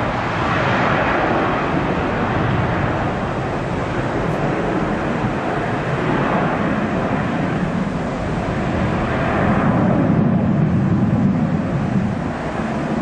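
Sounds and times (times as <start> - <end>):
jet engines rumbling at takeoff: 0.0 - 13.0.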